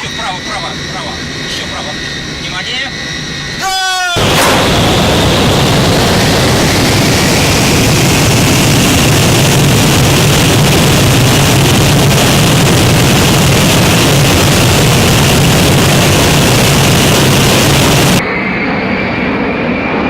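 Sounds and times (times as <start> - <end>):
aircraft engines roaring: 0.0 - 20.0
high steady whine: 0.0 - 20.0
rushing air: 0.4 - 18.2.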